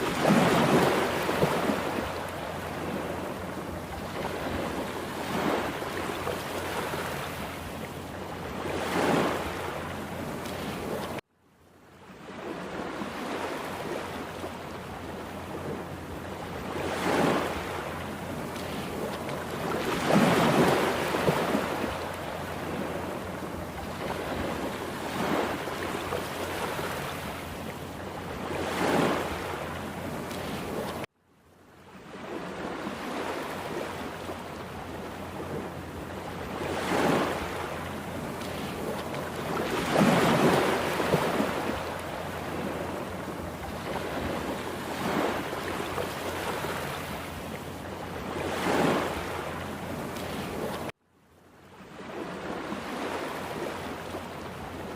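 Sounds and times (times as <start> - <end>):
rushing water: 0.0 - 11.2, 12.6 - 31.1, 32.1 - 51.0
waves breaking: 0.0 - 11.3, 12.0 - 31.1, 31.8 - 51.0, 51.7 - 54.9.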